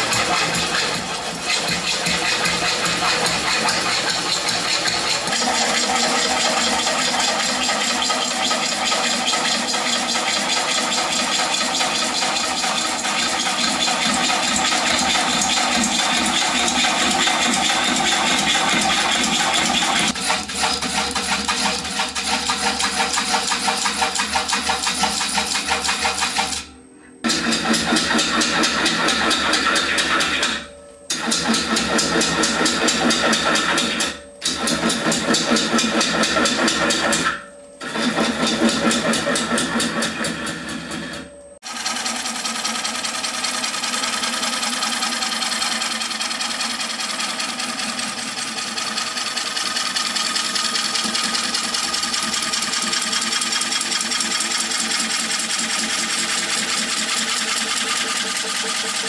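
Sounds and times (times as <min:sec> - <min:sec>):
gouge cutting wood on lathe: 0:00.0 - 0:26.7, 0:27.3 - 0:59.0
lathe humming: 0:00.0 - 0:26.7, 0:27.3 - 0:59.0.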